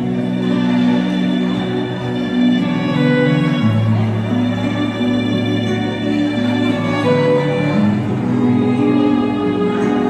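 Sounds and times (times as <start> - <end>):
violin-like melody: 0.0 - 10.0.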